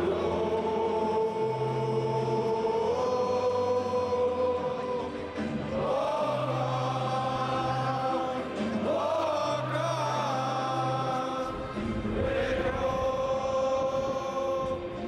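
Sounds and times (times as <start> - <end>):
stadium crowd singing: 0.0 - 15.0.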